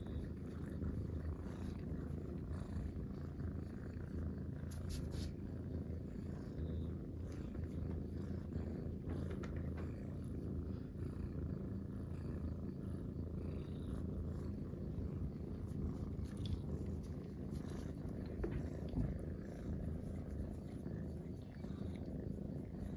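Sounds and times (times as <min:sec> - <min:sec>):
cats purring: 0:00.0 - 0:22.9.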